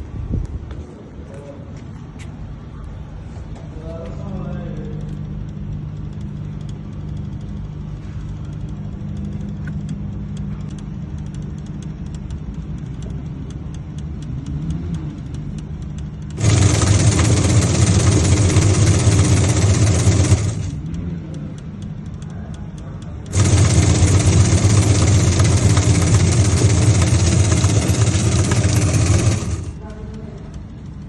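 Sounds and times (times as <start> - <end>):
washing machine motor hum: 2.5 - 31.0.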